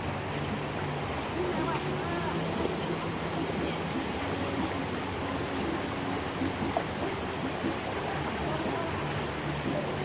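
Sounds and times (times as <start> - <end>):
river water rushing over weir: 0.0 - 10.0.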